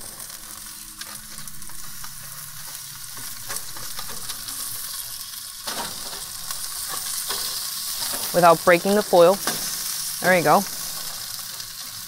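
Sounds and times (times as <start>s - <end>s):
fish sizzling on a grill: 0.0s - 12.0s.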